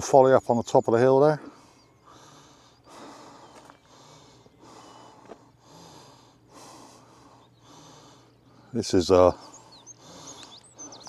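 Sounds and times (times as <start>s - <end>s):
man breathing heavily: 1.4s - 11.0s.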